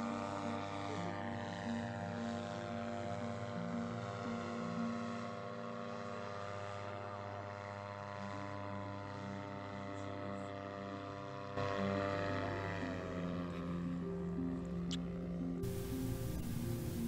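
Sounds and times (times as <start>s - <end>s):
paramotor engine droning: 0.0s - 17.0s.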